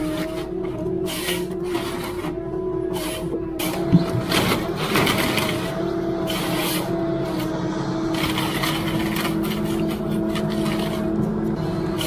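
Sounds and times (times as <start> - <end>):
harvester engine and hydraulics humming: 0.0 - 12.0
saw rasping: 0.0 - 12.0.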